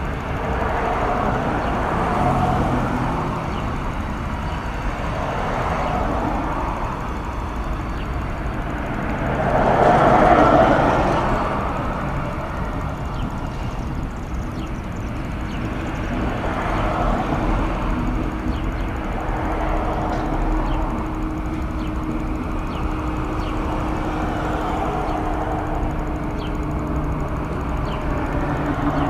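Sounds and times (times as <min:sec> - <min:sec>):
train rumbling and rattling: 0:00.0 - 0:29.0.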